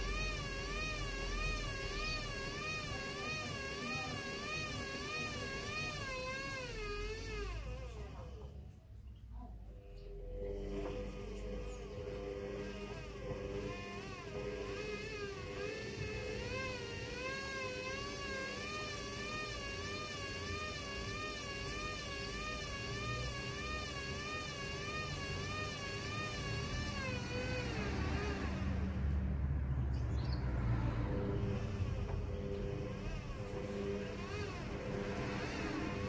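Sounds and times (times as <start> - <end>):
washing machine motor whine: 0.0 - 36.0.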